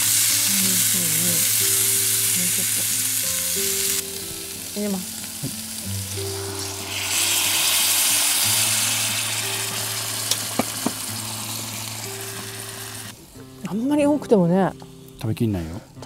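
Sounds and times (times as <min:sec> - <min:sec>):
water sizzling in hot pot: 0:00.0 - 0:13.2.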